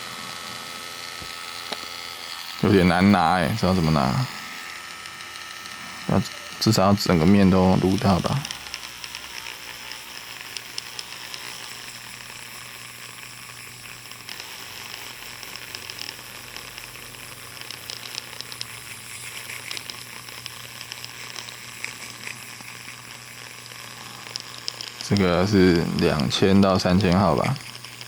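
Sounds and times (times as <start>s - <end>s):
faint motor hum: 0.0s - 28.0s
rotary tool sanding plastic: 0.0s - 28.0s.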